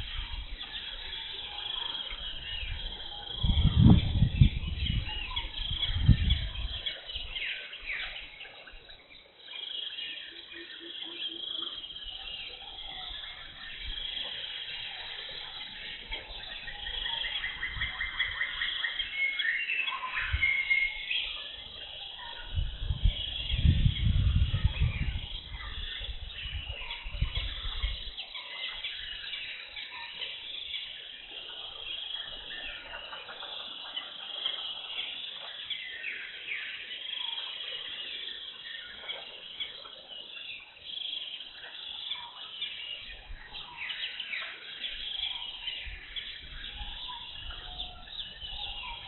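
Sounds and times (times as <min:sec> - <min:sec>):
birds chirping and twittering: 0:00.0 - 0:49.0.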